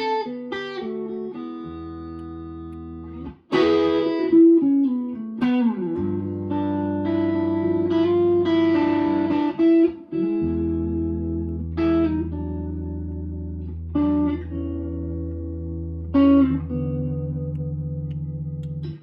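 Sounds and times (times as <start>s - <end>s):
electric guitar chords: 0.0s - 19.0s
guitar pitch slide: 0.0s - 19.0s.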